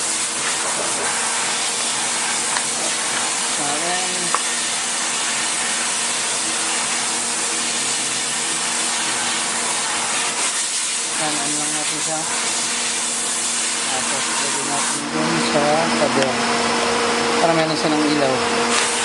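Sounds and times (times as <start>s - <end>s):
vacuum rushing hiss: 0.0s - 19.0s.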